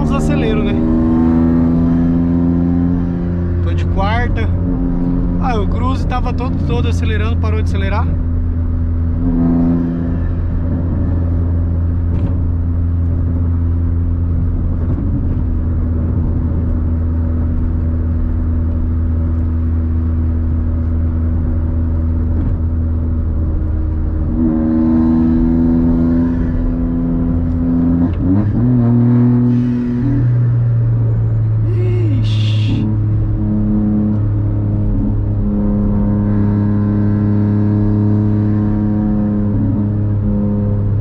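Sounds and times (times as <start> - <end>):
car engine drone: 0.0 - 41.0
road noise: 0.0 - 41.0.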